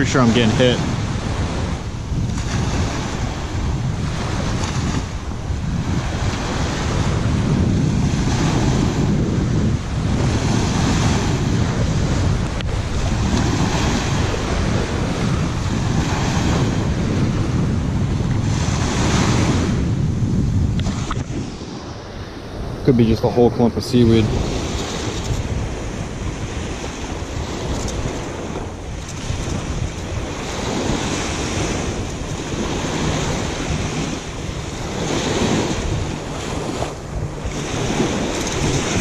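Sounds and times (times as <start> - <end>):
waves washing on shore: 0.0 - 39.0
wind buffeting the microphone: 0.0 - 39.0.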